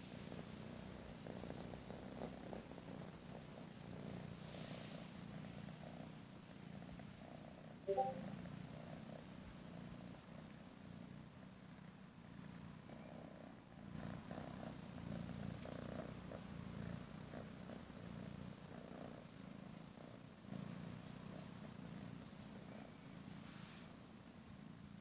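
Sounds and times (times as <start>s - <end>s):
kitten purring: 0.0s - 25.0s.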